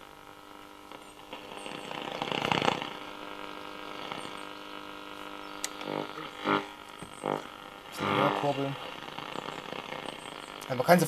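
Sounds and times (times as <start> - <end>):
radio buzzing hum: 0.0 - 11.0
radio crackling static: 0.0 - 11.0.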